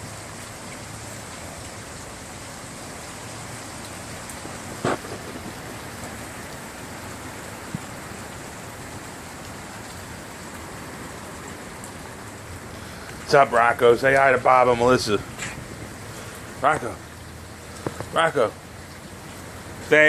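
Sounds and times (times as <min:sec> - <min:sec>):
steady rain on surfaces: 0:00.0 - 0:20.0.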